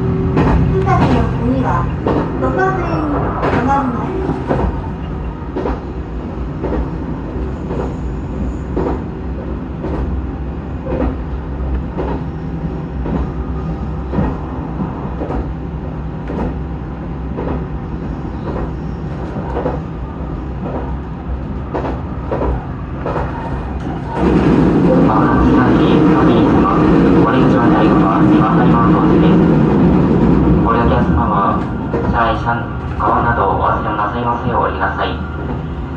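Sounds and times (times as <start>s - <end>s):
railcar engine rumble: 0.0s - 35.9s.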